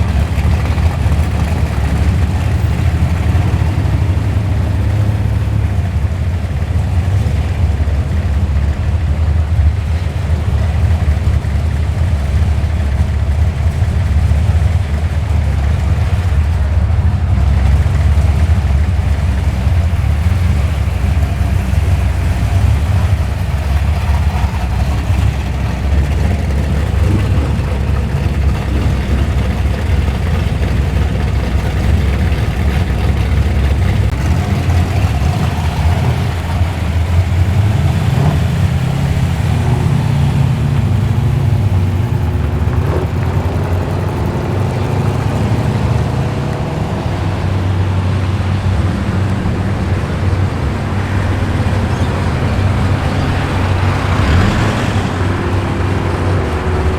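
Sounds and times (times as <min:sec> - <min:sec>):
car engine rumbling: 0:00.0 - 0:56.9.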